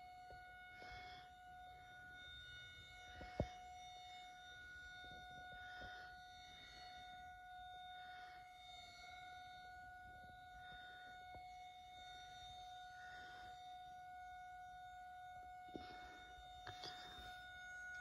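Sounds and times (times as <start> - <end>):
rotating warning siren: 0.0 - 18.0.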